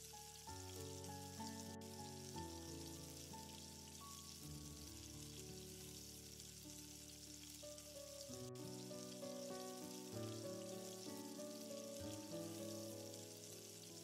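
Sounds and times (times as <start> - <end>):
oil sizzling in a pan: 0.0 - 14.0
soft background music: 0.0 - 14.0.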